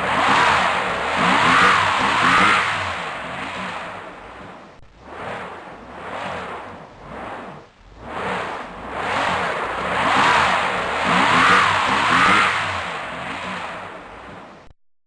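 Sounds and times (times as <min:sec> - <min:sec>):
tractor engine revving: 0:00.0 - 0:14.6.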